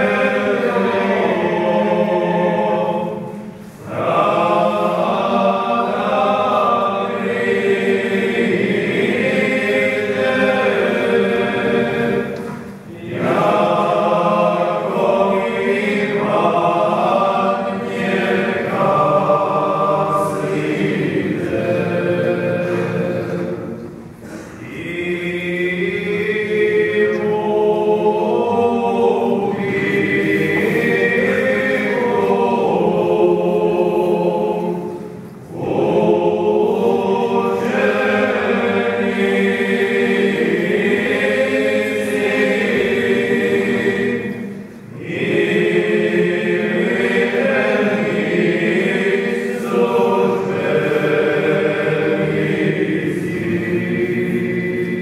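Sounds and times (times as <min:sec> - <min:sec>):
choir singing a chant: 0:00.0 - 0:55.0.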